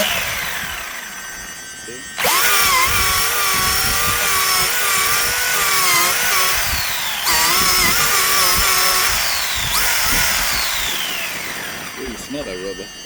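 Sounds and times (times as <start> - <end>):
electric motor whining: 0.0 - 13.0
tire spinning: 0.0 - 13.0.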